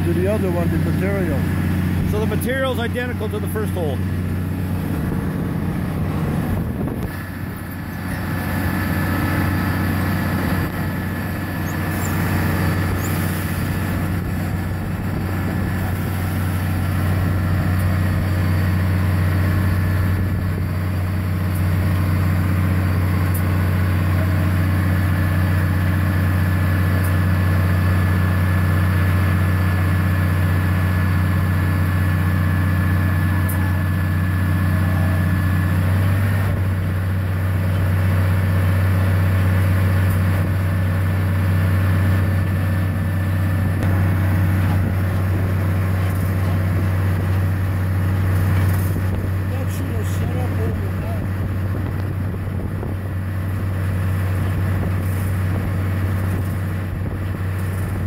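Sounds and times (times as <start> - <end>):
drilling rig engine droning: 0.0 - 58.0.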